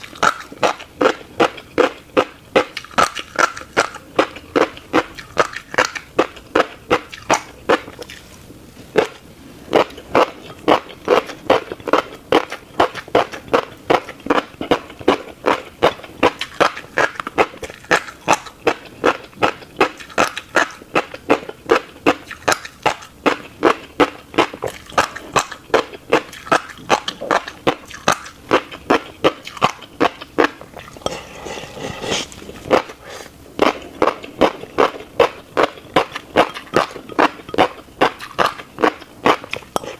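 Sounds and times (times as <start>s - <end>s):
wet clicky chewing of seeds: 0.0s - 39.9s.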